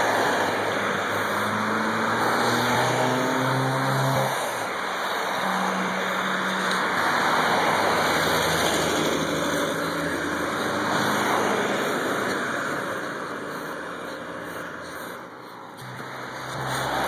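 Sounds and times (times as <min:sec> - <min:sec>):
car engine: 0:00.0 - 0:17.0.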